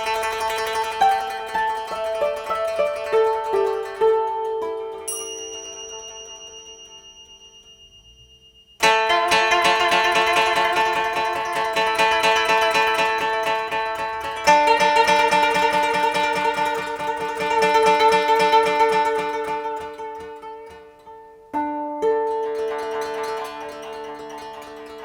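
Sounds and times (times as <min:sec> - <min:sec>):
koto plucked notes: 0:00.0 - 0:25.0.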